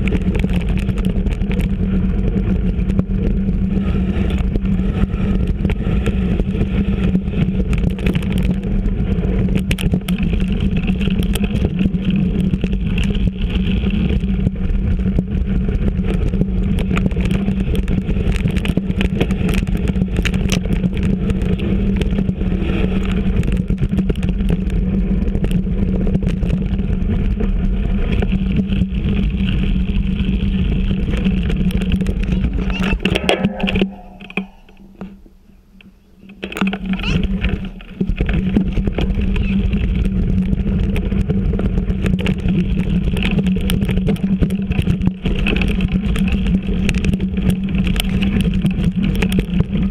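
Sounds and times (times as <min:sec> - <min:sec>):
bike clicks and rattles: 0:00.0 - 0:49.9
bike tyre and wind rumble: 0:00.0 - 0:49.9.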